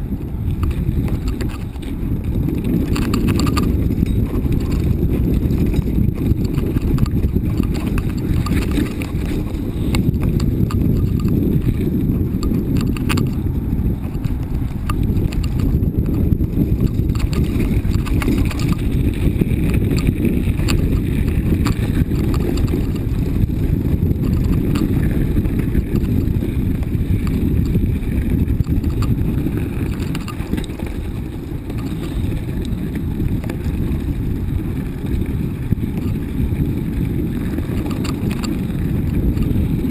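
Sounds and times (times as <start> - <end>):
bike clicks and knocks over bumps: 0.0 - 39.9
wind buffeting microphone: 0.0 - 39.9.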